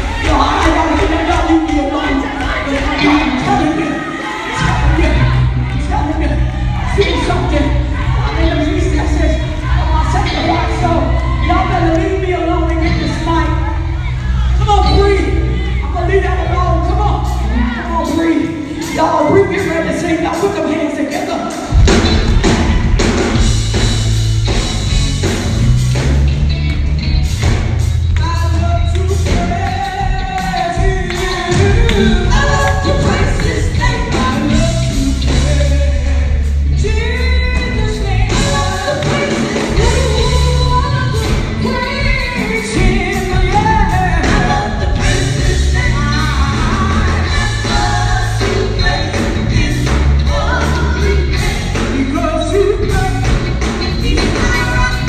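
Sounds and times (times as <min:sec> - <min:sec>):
drums and bass beat: 0:00.0 - 0:55.0
gospel band music: 0:00.0 - 0:55.0.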